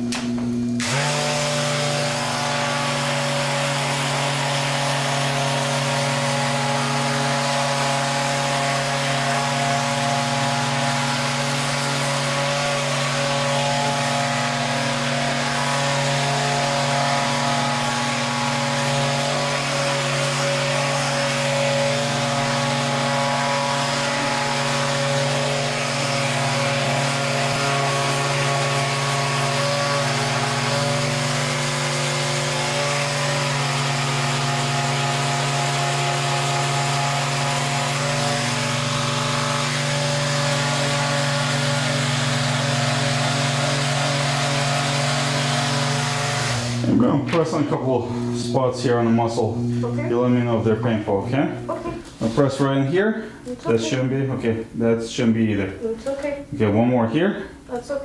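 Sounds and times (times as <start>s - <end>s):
electric massager buzzing: 0.0s - 57.1s.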